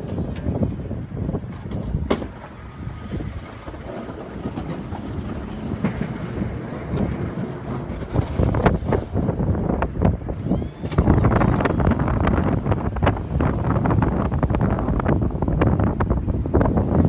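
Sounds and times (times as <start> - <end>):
snowplow engine rumbling: 0.0 - 17.0
wind noise on microphone: 0.0 - 17.0.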